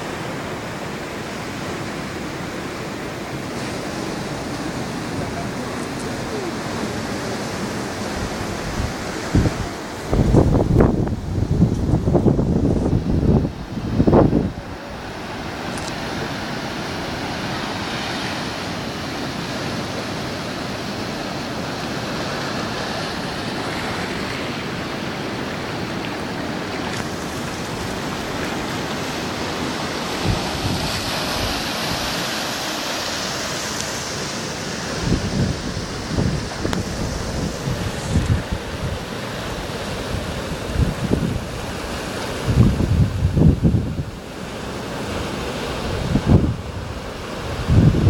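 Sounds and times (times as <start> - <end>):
ocean surf washing: 0.0 - 48.0
wind on microphone: 3.4 - 48.0.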